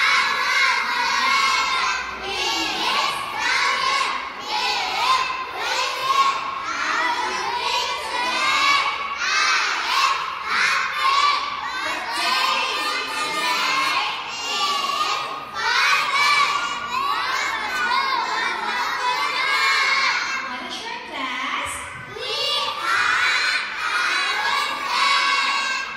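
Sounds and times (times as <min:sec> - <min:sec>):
children chanting in unison: 0:00.0 - 0:20.6, 0:22.0 - 0:25.9.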